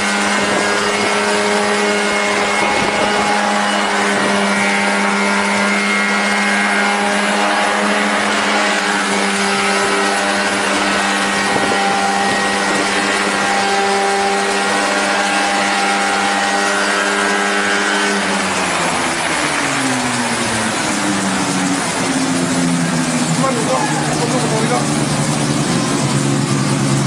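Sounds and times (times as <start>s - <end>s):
aircraft engine and propeller drone: 0.0s - 27.0s.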